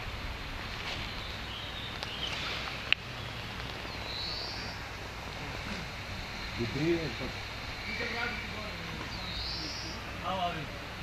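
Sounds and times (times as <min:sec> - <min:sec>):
steady low rumble: 0:00.0 - 0:11.0
bird calling: 0:00.8 - 0:10.9.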